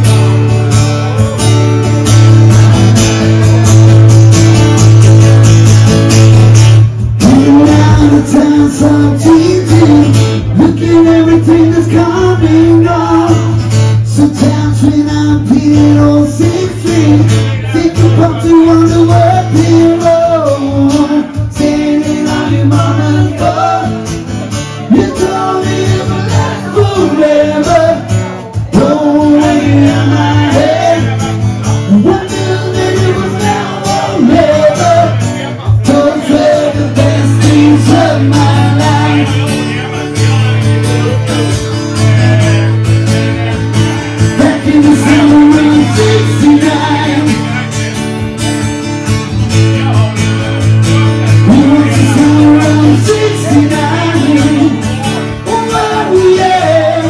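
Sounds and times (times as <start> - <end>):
acoustic guitar: 0.0 - 57.0
man singing into microphone: 7.0 - 48.0, 49.7 - 57.0.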